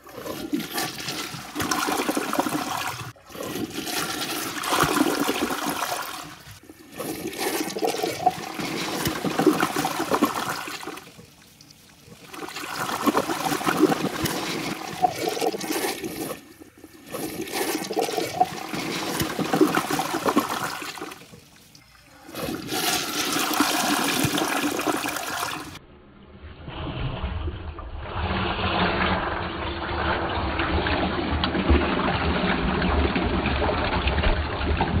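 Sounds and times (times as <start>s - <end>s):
toilet flushing: 0.0s - 25.8s, 28.2s - 35.0s.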